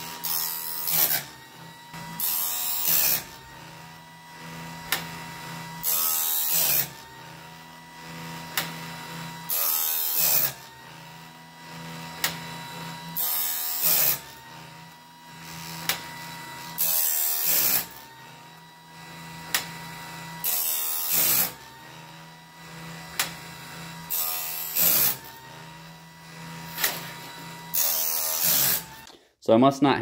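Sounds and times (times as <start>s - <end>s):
grinding on saw blade: 0.0s - 29.1s
grinding wheel humming: 0.0s - 29.1s.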